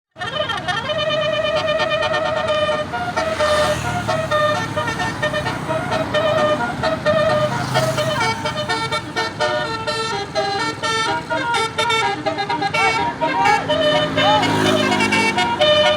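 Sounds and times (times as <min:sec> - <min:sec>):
musical air horn fast melody: 0:00.2 - 0:15.9.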